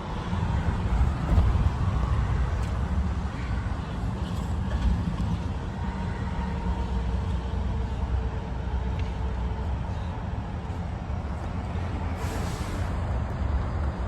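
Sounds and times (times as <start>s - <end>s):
motor vehicle rumble: 0.0s - 14.0s
road noise: 0.0s - 14.0s.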